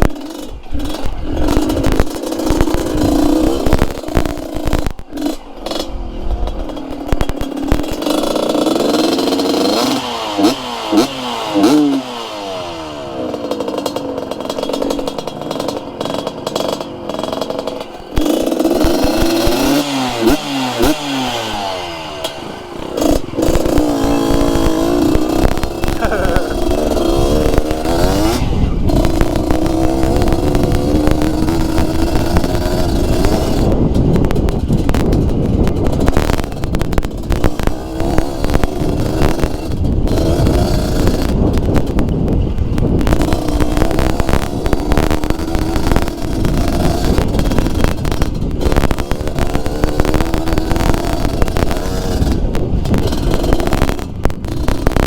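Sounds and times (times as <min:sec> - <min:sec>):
motorcycle engine revving: 0:00.0 - 0:55.0
motorcycle knocks and clatter: 0:00.0 - 0:55.0.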